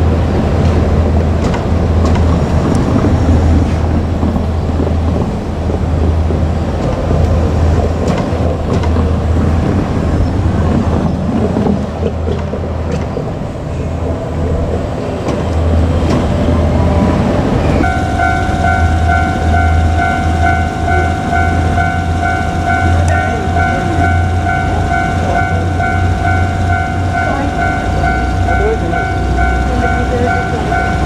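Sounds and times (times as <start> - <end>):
diesel railcar drone: 0.0 - 31.0.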